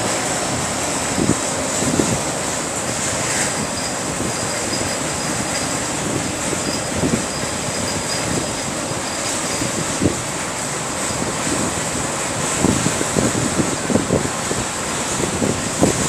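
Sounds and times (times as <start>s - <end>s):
tyres and engine rumble: 0.0s - 16.0s.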